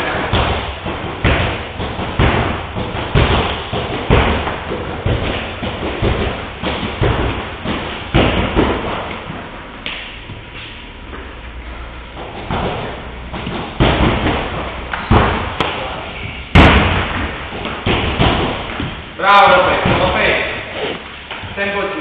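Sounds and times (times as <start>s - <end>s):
blows on padded guards: 0.0s - 11.0s, 12.0s - 21.3s
feet stamping on wooden floor: 0.0s - 21.6s.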